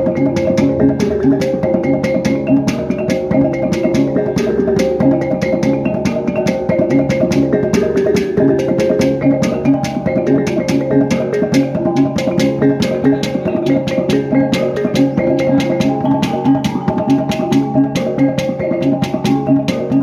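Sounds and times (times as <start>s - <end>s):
small gongs playing melody: 0.0s - 20.0s
sticks beating goblet drum: 0.0s - 20.0s.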